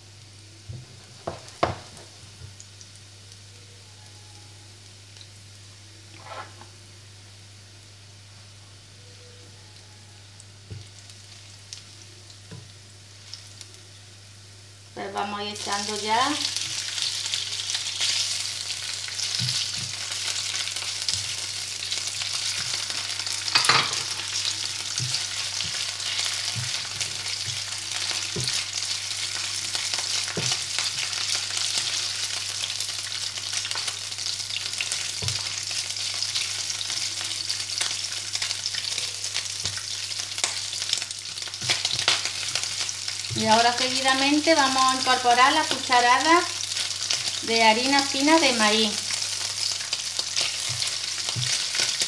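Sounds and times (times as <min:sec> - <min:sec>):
prawns sizzling in hot oil: 0:00.0 - 0:03.6, 0:10.4 - 0:52.0.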